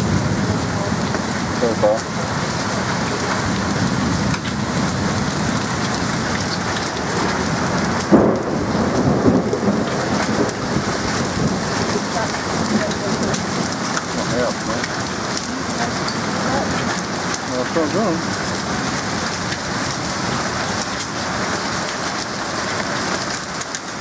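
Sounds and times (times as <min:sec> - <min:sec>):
heavy rain and hail: 0:00.0 - 0:24.0.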